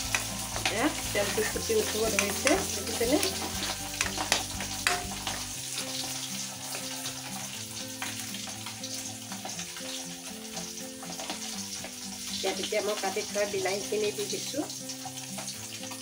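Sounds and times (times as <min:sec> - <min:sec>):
paste sizzling in hot oil: 0:00.0 - 0:16.0
spoon stirring against pan: 0:00.0 - 0:16.0.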